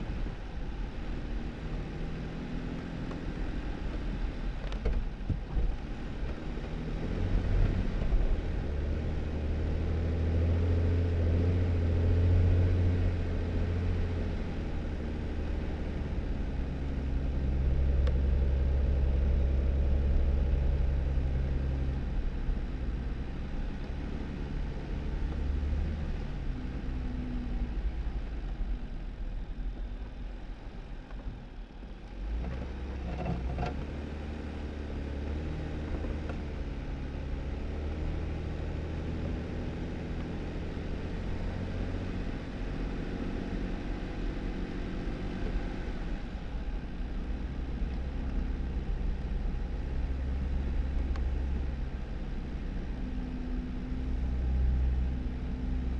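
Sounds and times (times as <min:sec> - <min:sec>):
low engine hum: 0:00.0 - 0:55.9
tyre and road noise: 0:00.0 - 0:55.9.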